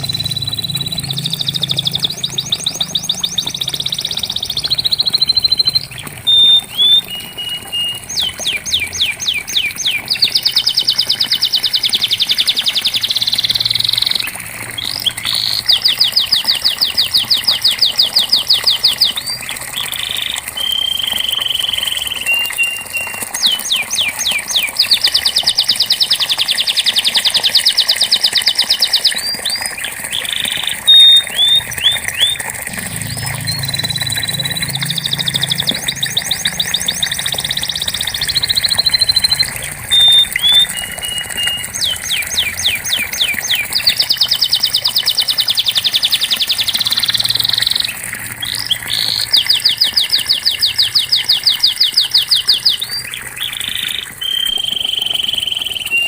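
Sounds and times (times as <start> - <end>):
canary chirps and whistles: 0.0 - 56.0
canary singing trills: 0.0 - 56.0.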